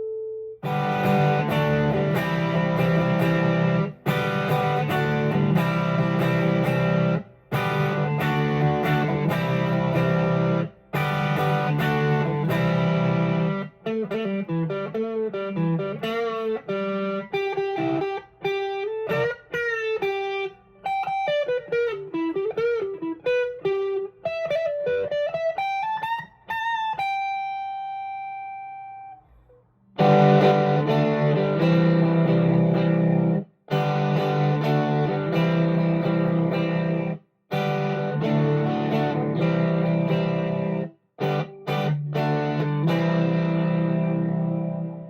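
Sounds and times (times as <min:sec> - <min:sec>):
electric guitar: 0:00.0 - 0:45.0.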